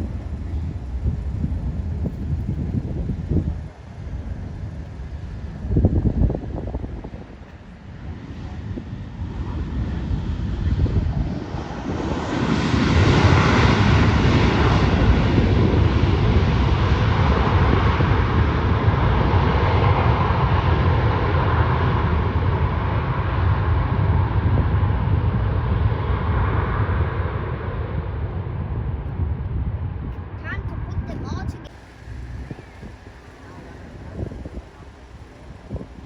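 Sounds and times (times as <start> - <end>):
jet engines passing: 0.0 - 23.3, 25.6 - 36.0.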